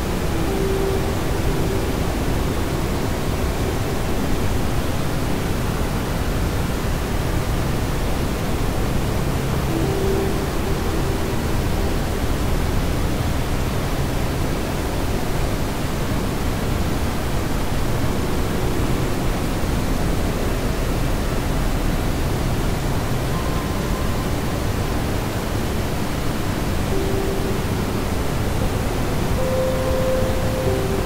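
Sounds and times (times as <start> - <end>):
faint steady tones: 0.0 - 31.0
steady rushing noise: 0.0 - 31.0.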